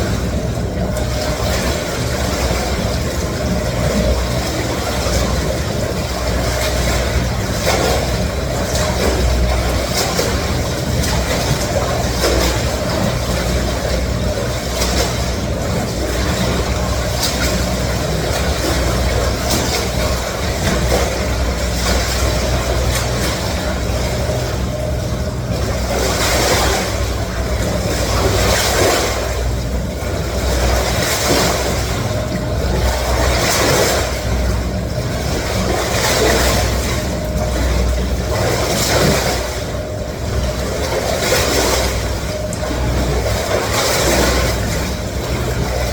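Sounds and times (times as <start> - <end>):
churning water rushing: 0.0 - 45.9
swim machine mechanical hum: 0.0 - 45.9
water splashes: 0.0 - 45.9.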